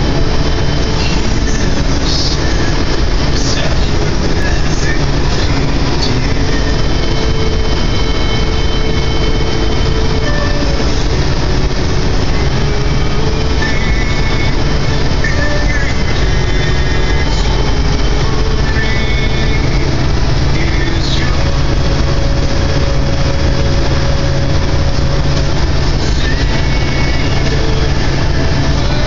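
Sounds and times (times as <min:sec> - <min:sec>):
truck cab road rumble and hiss: 0:00.0 - 0:29.0.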